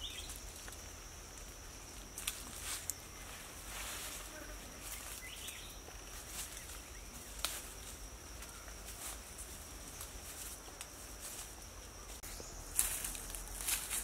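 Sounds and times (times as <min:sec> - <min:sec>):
high insect buzz: 0:00.0 - 0:14.0
footsteps through dry leaves: 0:02.2 - 0:14.0.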